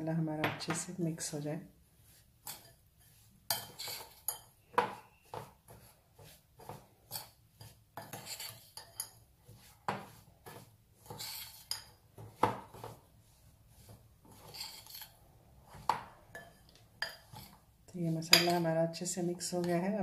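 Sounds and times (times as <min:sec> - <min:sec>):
metal spoon scraping spice paste: 0:01.1 - 0:20.0.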